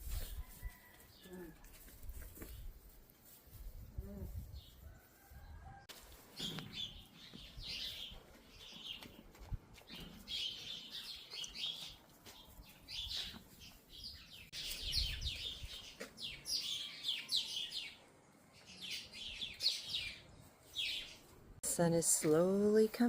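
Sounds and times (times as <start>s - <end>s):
songbirds chirping and trilling: 0.0s - 21.6s.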